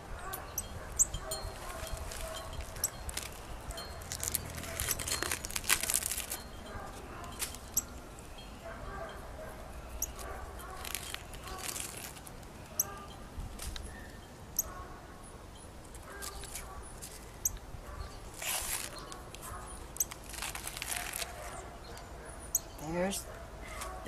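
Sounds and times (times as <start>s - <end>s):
crackly rustling of leaves: 0.0s - 24.0s.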